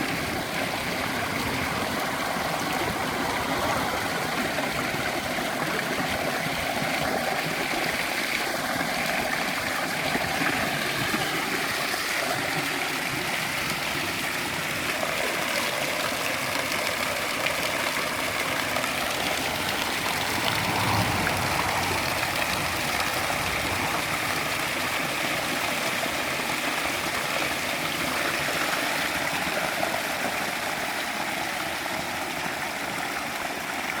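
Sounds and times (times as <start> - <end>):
water splashing over rocks: 0.0 - 34.0.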